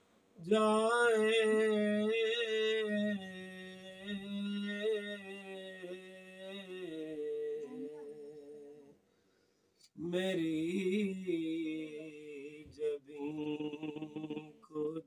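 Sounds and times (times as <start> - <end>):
man singing unaccompanied: 0.4 - 9.0, 10.0 - 15.0.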